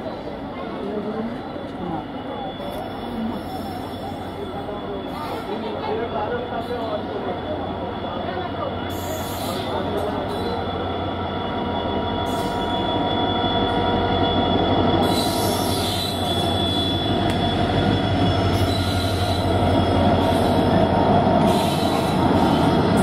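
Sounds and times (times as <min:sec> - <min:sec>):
diesel locomotive humming: 0:00.0 - 0:23.0
train wheel rumble: 0:00.0 - 0:23.0
high wheel squeal: 0:01.9 - 0:23.0.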